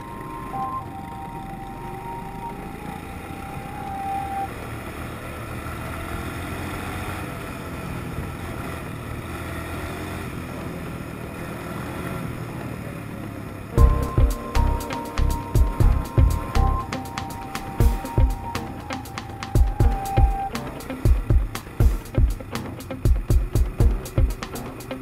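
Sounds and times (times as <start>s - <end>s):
quad bike engine running: 4.3s - 25.0s.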